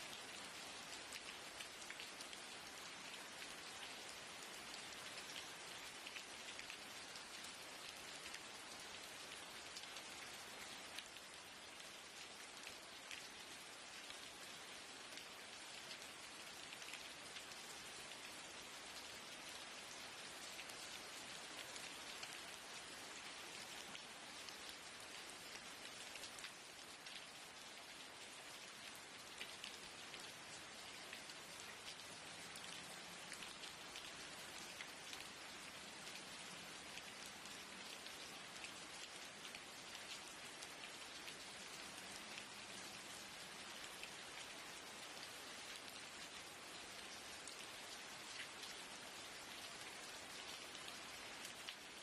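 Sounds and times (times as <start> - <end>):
rain pattering on a window: 0.0 - 52.0.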